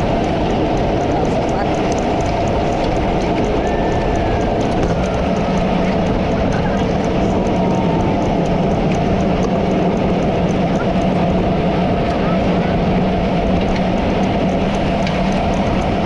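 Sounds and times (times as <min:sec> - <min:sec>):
faint regular ticking: 0:00.0 - 0:16.0
heavy rain: 0:00.0 - 0:16.0
low steady hum: 0:00.0 - 0:16.0
road and wind noise: 0:00.0 - 0:16.0.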